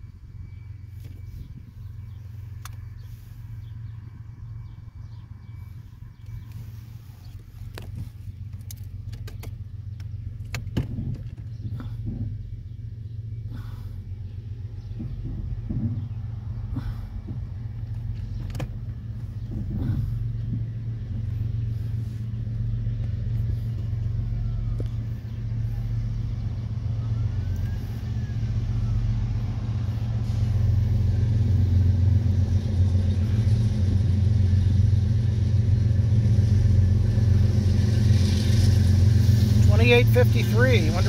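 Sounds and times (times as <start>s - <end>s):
diesel locomotive engine rumble: 0.0s - 41.0s.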